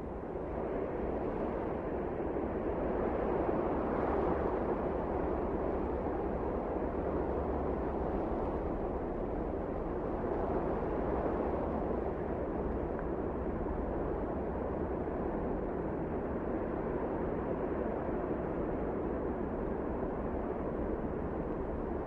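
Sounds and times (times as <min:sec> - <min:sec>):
steady wind: 0:00.0 - 0:22.0.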